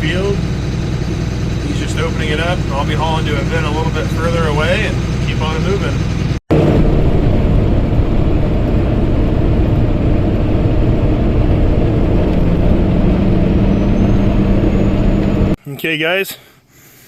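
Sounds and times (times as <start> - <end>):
heavy farm machinery drone: 0.0 - 15.6
low hum: 0.0 - 15.6.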